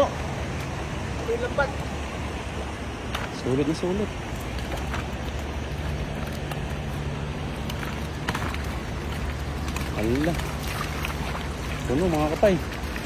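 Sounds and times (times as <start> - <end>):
river water rushing: 0.0 - 13.0
fish splashing and tapping: 0.2 - 13.0.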